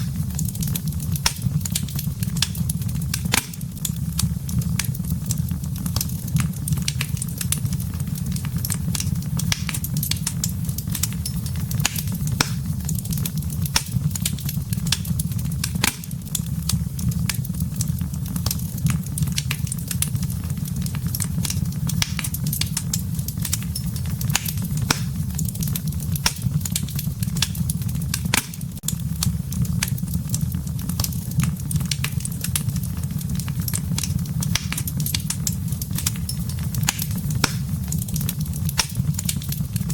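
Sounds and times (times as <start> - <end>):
burning wood popping: 0.0 - 39.9
low rumble of flames: 0.0 - 39.9.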